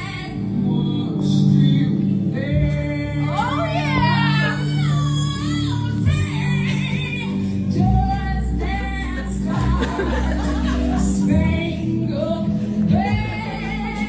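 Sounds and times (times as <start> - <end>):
bass notes: 0.0 - 14.0
pop song with sung vocal: 0.0 - 14.0.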